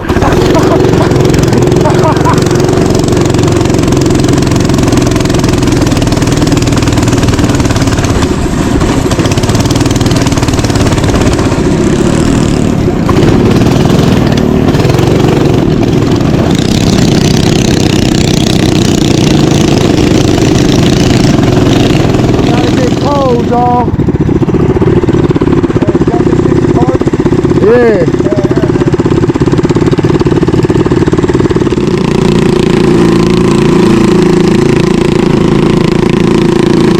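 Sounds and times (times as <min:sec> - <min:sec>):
small engine running: 0:00.0 - 0:36.9.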